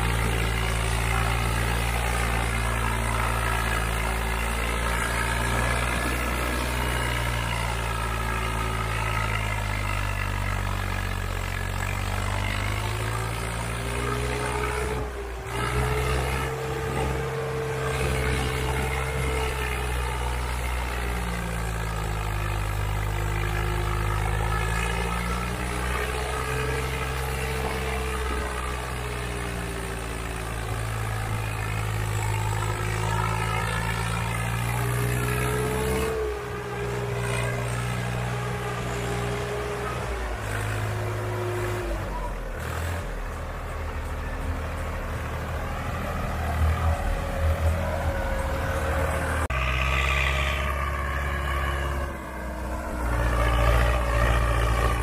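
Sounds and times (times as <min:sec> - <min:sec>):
diesel tractor engine under load: 0:00.0 - 0:55.0.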